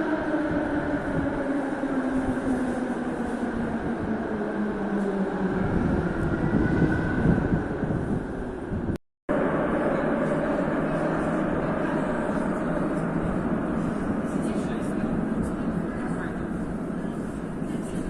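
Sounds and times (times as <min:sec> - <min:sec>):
metro train rumble and whine: 0:00.0 - 0:18.0.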